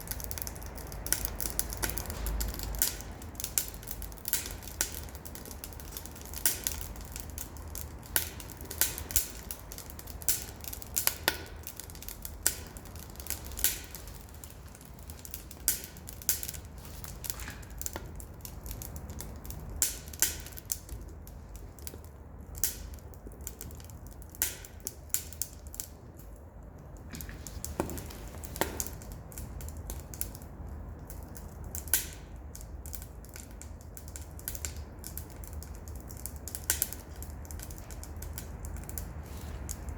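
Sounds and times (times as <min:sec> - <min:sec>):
wood stove fire crackling: 0:00.0 - 0:39.9.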